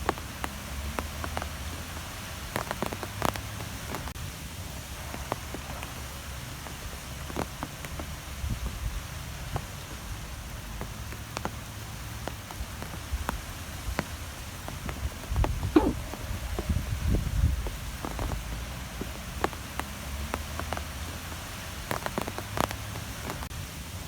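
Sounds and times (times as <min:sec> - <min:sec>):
wind hissing and rumbling: 0:00.0 - 0:24.0.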